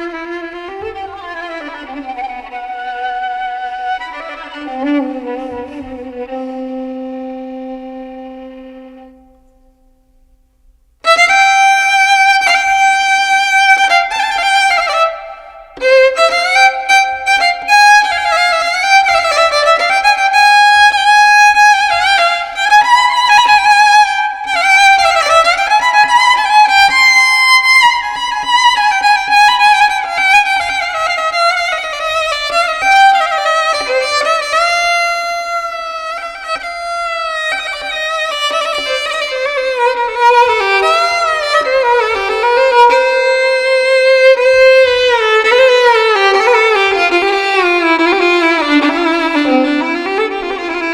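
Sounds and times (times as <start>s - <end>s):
solo violin slow melody: 0.0s - 9.8s, 11.0s - 50.9s.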